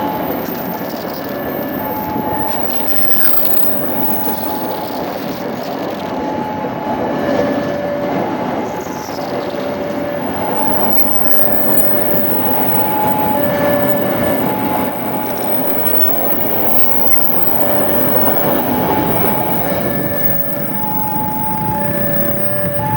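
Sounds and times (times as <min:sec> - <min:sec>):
train wheels rattling on rails: 0:00.0 - 0:22.9
wheel squeal: 0:00.0 - 0:22.9
faint two-note tone: 0:01.0 - 0:22.9.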